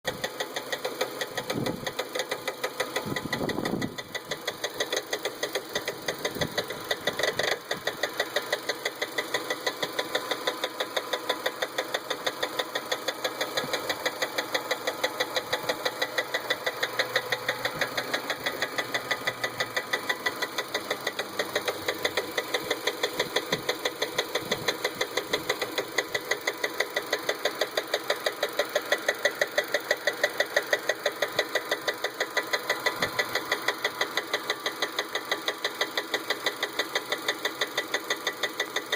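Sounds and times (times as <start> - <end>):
engine running with ticking knock: 0.1 - 38.9.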